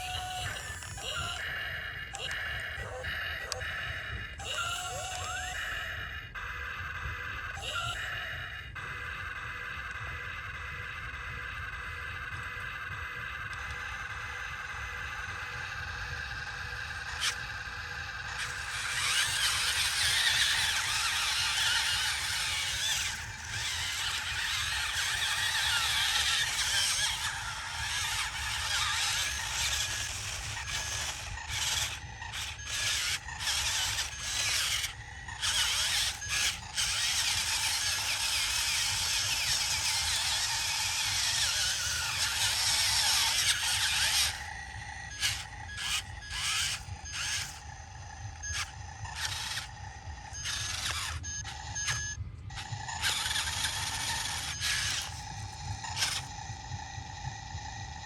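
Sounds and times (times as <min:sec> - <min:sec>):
mechanical rattling and grinding: 0:00.0 - 0:08.0, 0:08.7 - 0:58.0
excavator engine rumble: 0:07.2 - 0:58.0.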